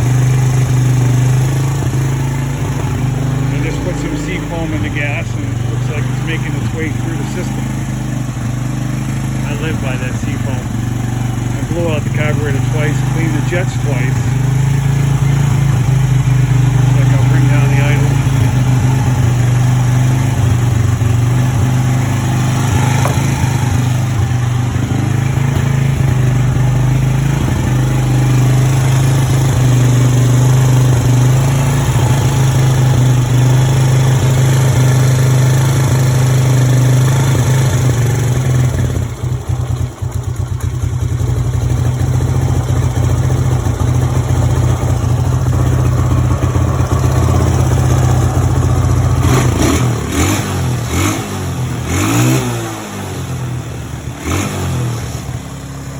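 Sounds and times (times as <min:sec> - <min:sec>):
atv engine rough idle: 0:00.0 - 0:55.9.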